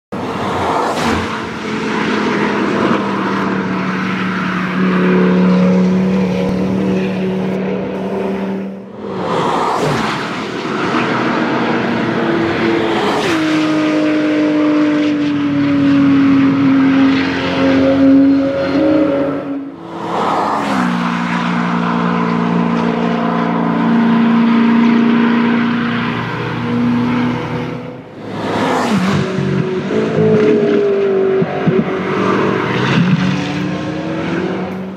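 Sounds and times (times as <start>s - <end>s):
race cars passing at speed: 0.1s - 34.9s
engines holding high revs: 0.2s - 34.9s.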